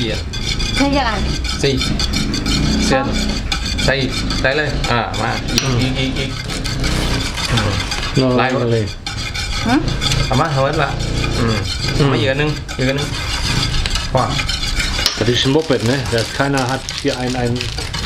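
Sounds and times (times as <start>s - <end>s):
utensil scraping and clicking bowl: 0.0s - 18.0s.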